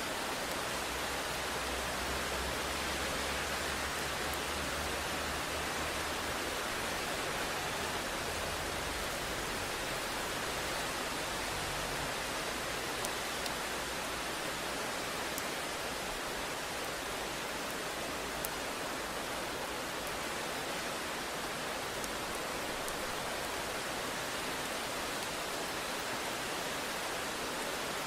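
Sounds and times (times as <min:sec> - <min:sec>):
heavy rain hiss: 0:00.0 - 0:28.0.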